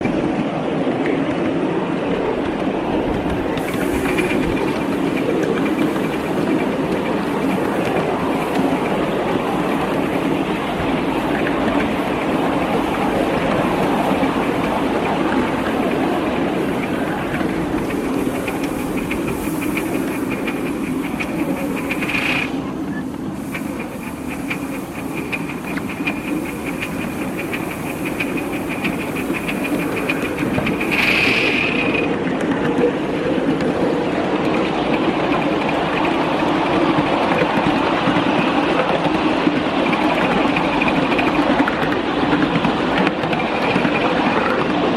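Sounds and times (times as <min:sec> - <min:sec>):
model steam locomotive rumble: 0:00.0 - 0:44.9
wheels clicking on rails: 0:00.0 - 0:44.9.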